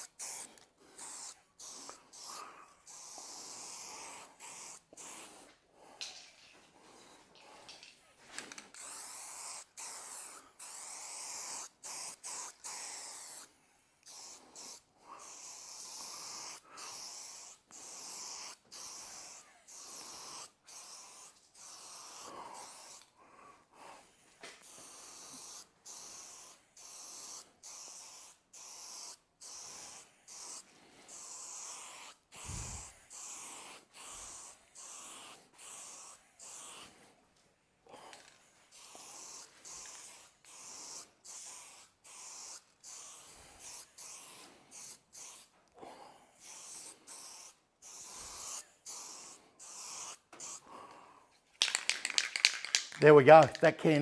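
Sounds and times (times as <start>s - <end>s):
spray-paint can hissing: 0.0s - 5.4s, 8.7s - 23.1s, 24.6s - 37.0s, 38.7s - 45.5s, 46.4s - 50.6s, 51.6s - 54.0s.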